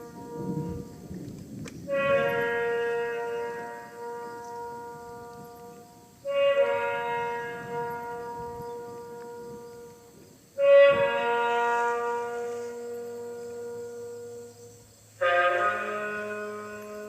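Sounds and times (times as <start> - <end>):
long held wind instrument notes: 0.0 - 17.0.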